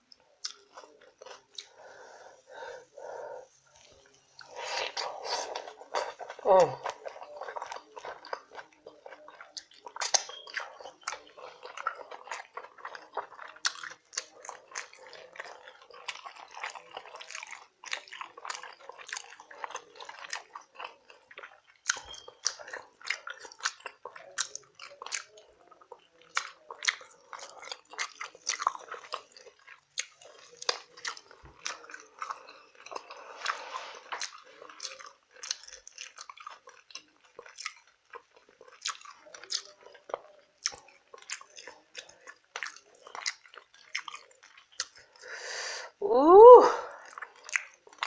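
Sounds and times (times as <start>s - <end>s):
wet chewing and lip-smacking: 0.1s - 2.2s, 3.0s - 45.2s, 46.9s - 48.0s.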